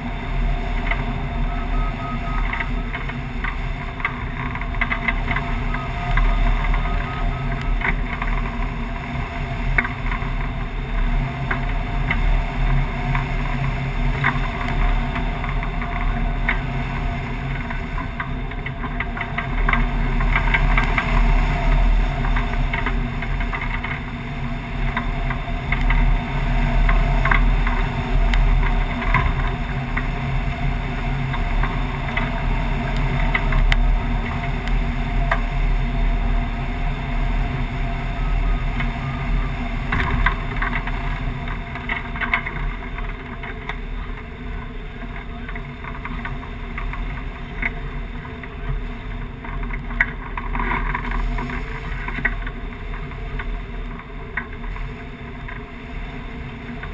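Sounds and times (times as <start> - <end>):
wind rushing over camera: 0.0 - 56.9.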